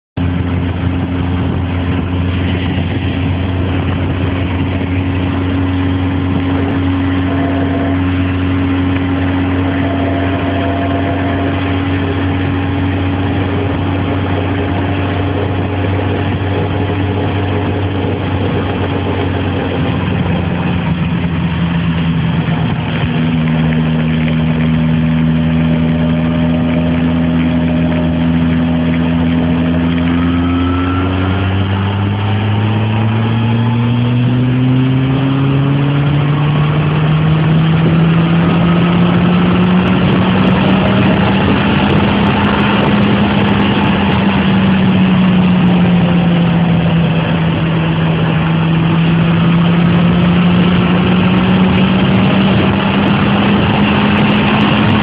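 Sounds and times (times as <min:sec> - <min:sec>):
motorcycle engine running: 0:00.2 - 0:55.0.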